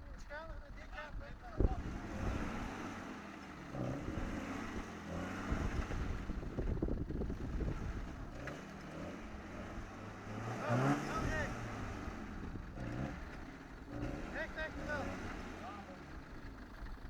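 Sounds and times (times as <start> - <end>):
engine revving: 1.6 - 16.9.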